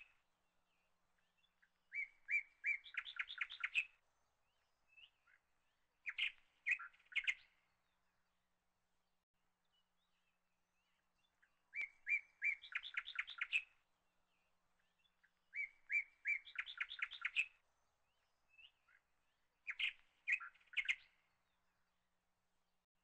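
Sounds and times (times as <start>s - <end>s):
bird singing song phrases: 0.0s - 8.7s, 9.5s - 22.1s.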